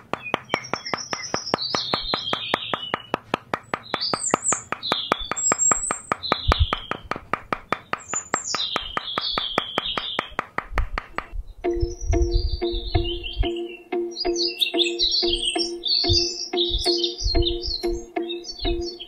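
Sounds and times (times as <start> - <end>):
fast even ticking: 0.0 - 19.0
small birds chirping: 0.0 - 19.0.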